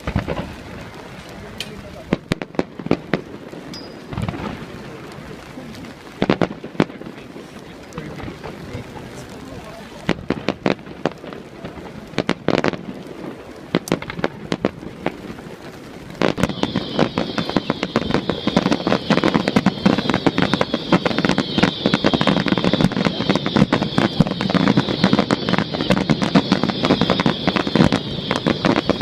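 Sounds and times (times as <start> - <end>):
fireworks bangs and crackle: 0.0 - 29.0
steady hiss: 0.0 - 29.0.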